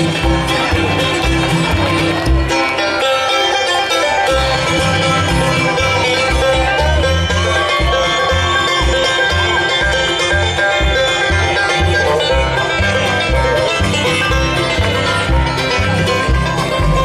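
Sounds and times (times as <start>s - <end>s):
bluegrass band playing: 0.0s - 17.0s.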